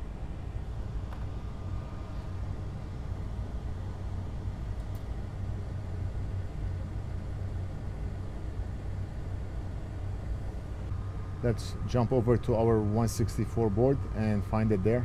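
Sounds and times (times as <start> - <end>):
low hum and rumble of motor: 0.0 - 15.0.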